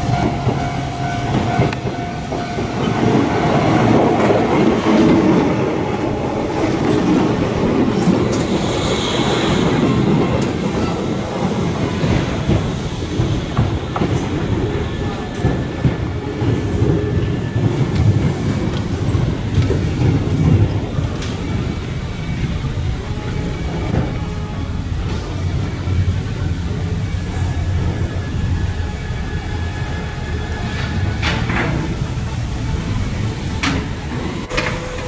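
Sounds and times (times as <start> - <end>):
electric train passing: 0.0 - 35.0.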